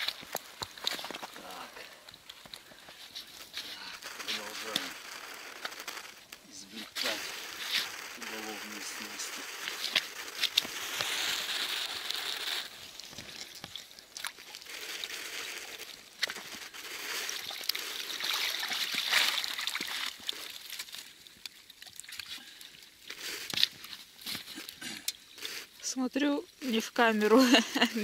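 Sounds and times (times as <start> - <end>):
water streaming and dripping off net: 0.0 - 28.0.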